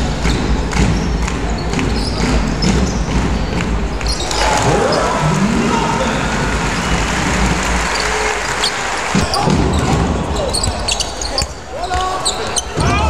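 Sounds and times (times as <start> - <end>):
arena crowd noise: 0.0 - 13.0.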